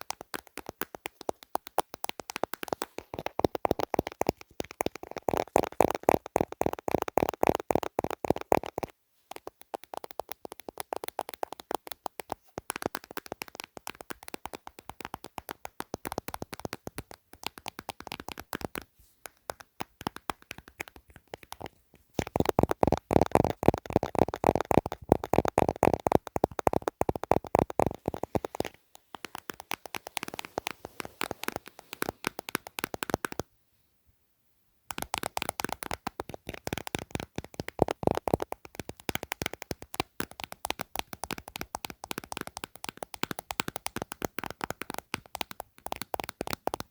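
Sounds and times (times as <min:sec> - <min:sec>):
finger tapping on hard gadget: 0:00.0 - 0:33.5, 0:34.9 - 0:46.9.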